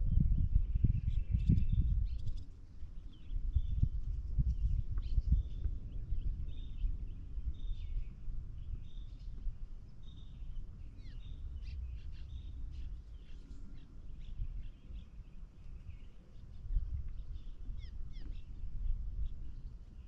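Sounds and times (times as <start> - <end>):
steady low rumble: 0.0 - 20.0
birds chirping: 0.7 - 20.0.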